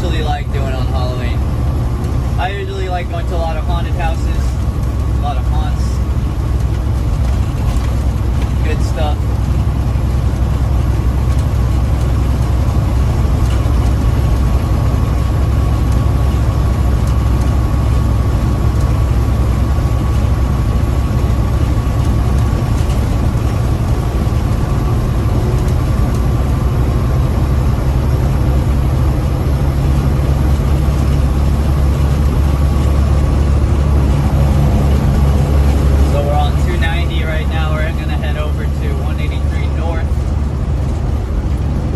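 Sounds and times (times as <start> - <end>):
truck diesel engine drone: 0.0 - 41.9.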